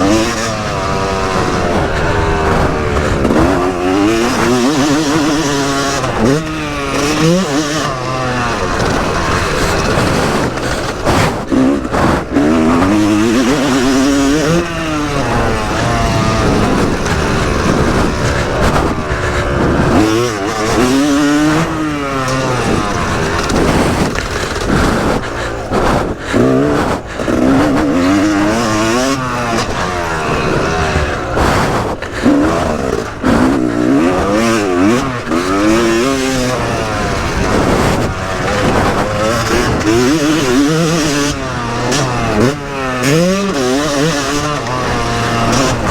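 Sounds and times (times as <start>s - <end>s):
motocross engine revving: 0.0s - 45.9s.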